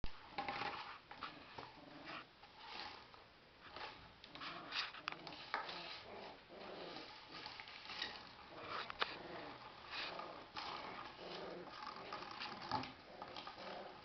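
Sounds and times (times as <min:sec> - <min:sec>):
puppies scuffling: 0:00.2 - 0:14.0.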